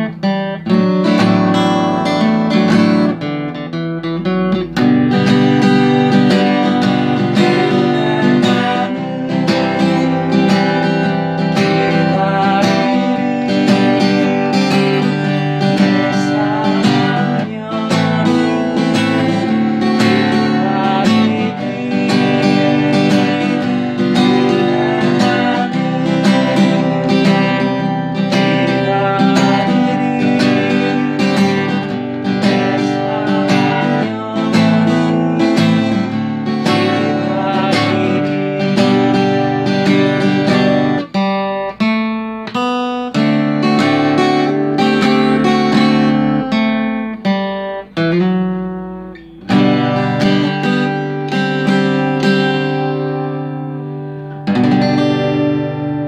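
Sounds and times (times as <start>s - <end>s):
acoustic guitar strummed: 0.0s - 56.0s.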